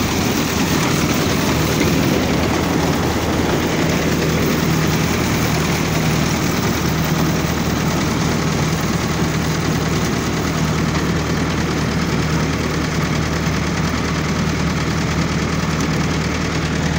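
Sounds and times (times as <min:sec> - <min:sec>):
combine harvester running: 0:00.0 - 0:16.9.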